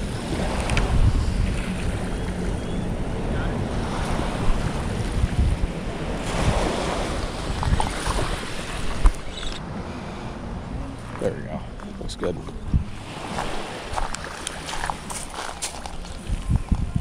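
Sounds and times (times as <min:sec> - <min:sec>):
small waves lapping on beach: 0:00.0 - 0:02.5, 0:03.1 - 0:11.2, 0:12.9 - 0:16.4
wind buffeting microphone: 0:00.0 - 0:09.6, 0:10.5 - 0:17.0.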